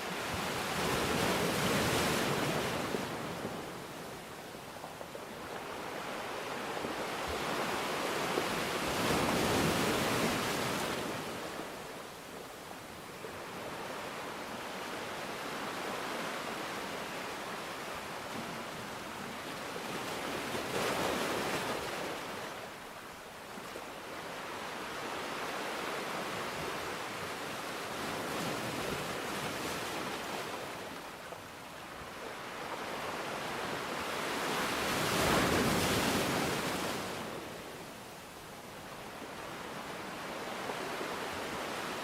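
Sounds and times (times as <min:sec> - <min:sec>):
waves breaking and washing in: 0:00.0 - 0:42.0.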